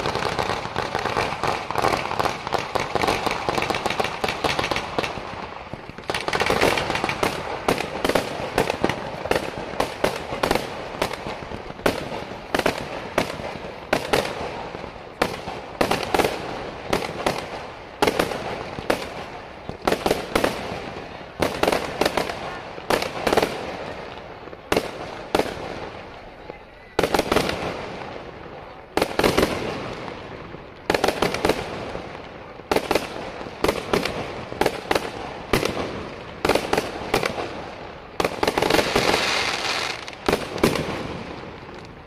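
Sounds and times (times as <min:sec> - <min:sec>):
fireworks bursting with crackling: 0:00.0 - 0:42.0.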